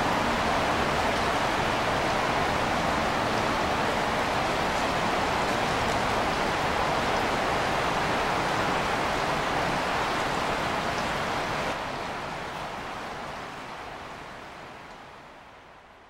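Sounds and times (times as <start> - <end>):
flowing creek water: 0.0 - 16.0.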